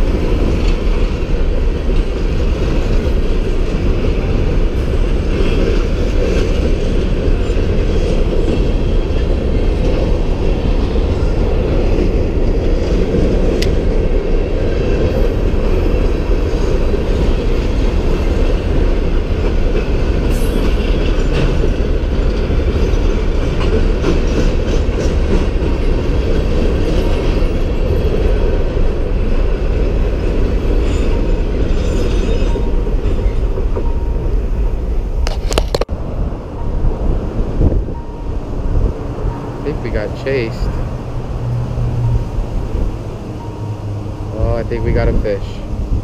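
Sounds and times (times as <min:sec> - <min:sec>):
freight train rumbling over bridge: 0:00.0 - 0:46.0
train wagons clanking: 0:00.0 - 0:46.0.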